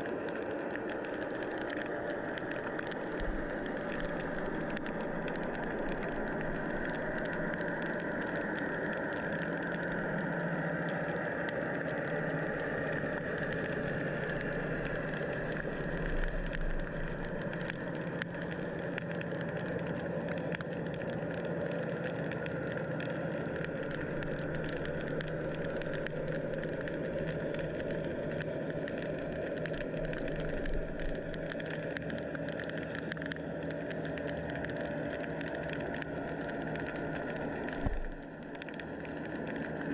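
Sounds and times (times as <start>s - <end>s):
faint crackling: 0.0s - 39.9s
underwater low hum: 0.0s - 39.9s.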